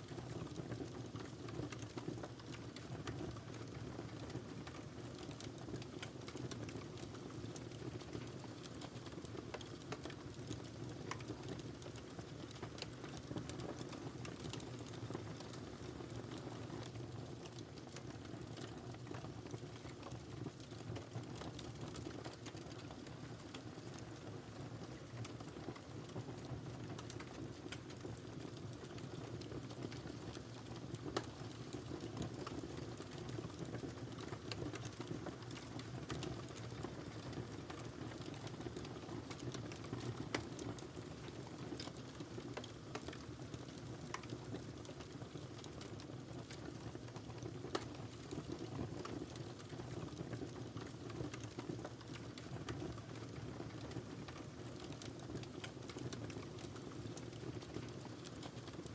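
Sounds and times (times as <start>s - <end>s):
low rumble of burning: 0.0s - 58.9s
fire popping and snapping: 0.1s - 58.9s.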